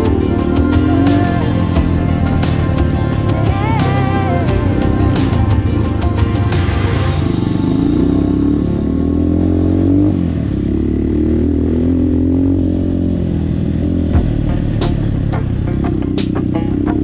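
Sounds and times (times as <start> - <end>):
dirt bike engine accelerating: 0.0 - 17.0.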